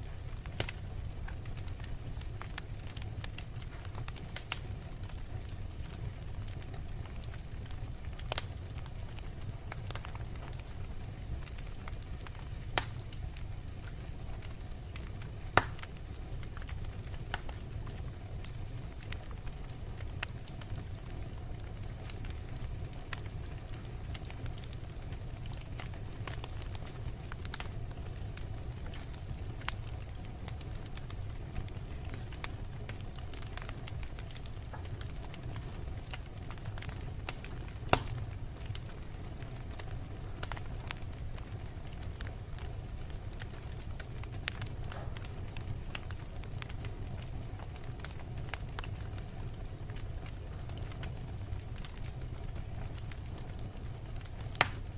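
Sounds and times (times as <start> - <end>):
fire flames rumbling: 0.0 - 54.9
logs crackling and popping: 0.0 - 54.9.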